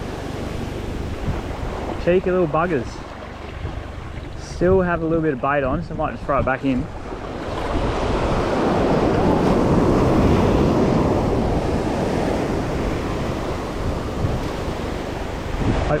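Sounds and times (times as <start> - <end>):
surf washing up shore: 0.0 - 16.0
wind buffeting microphone: 0.0 - 16.0.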